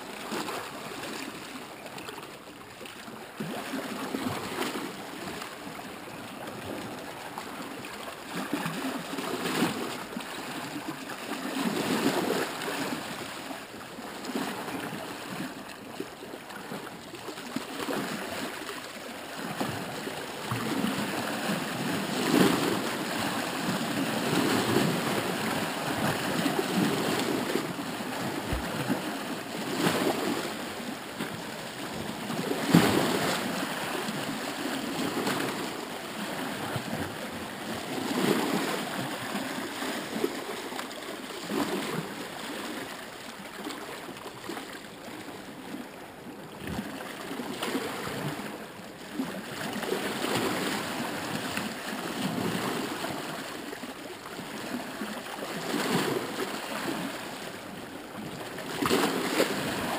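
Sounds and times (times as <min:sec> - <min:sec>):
small waves lapping: 0:00.0 - 0:59.9.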